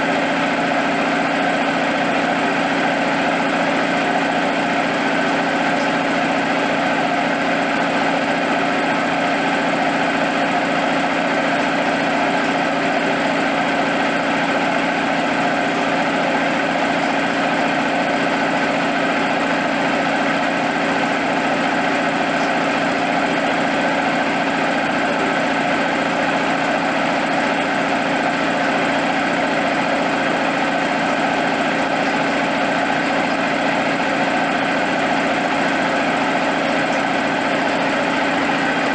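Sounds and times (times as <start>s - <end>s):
piston air compressor running: 0.0s - 38.9s.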